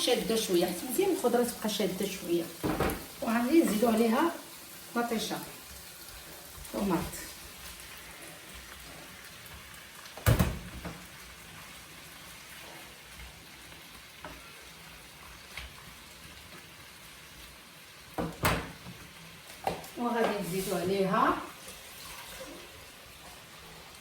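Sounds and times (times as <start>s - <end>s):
peppers sizzling in oil: 0.0s - 24.0s.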